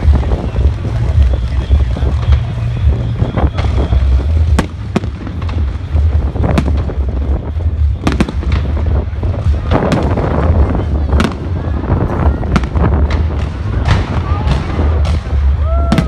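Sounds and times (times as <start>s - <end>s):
fireworks bangs: 0.0s - 16.0s
low rumble: 0.0s - 16.0s.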